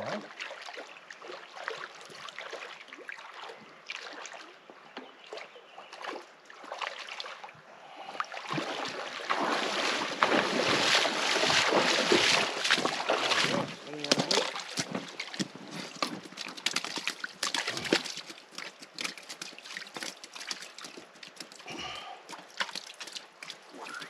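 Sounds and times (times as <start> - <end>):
river water lapping on rocks: 0.3 - 24.0.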